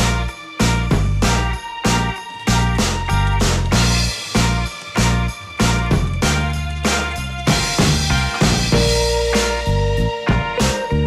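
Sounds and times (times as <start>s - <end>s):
background music: 0.0s - 11.0s
drum hits: 0.0s - 11.0s
held bass notes: 0.0s - 11.0s.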